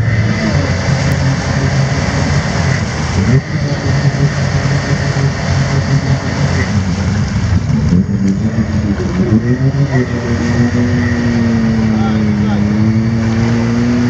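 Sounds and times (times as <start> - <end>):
engine revving under load: 0.0 - 14.0.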